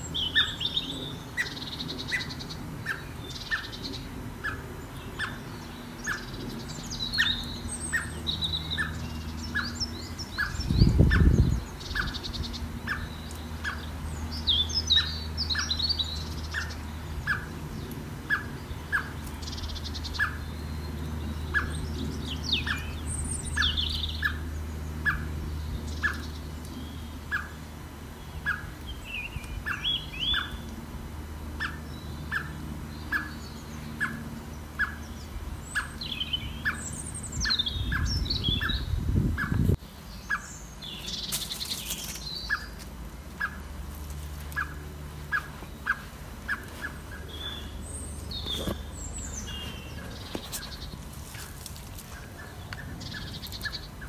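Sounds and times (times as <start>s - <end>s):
blackbird calling: 0.0s - 30.8s, 31.5s - 43.8s, 44.4s - 54.0s
bird chirps and song: 0.0s - 54.0s.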